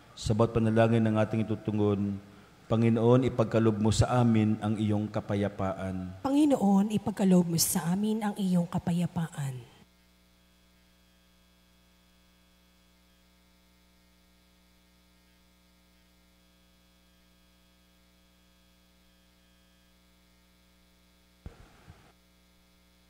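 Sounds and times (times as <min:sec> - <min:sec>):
faint mains hum: 0:00.0 - 0:23.0.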